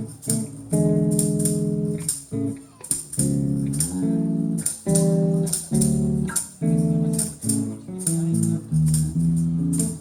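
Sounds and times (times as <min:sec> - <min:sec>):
high percussion tick: 0:00.1 - 0:10.0.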